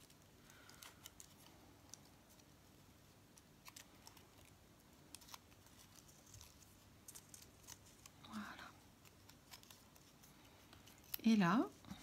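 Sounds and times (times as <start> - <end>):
paper being folded: 0.0 - 12.0.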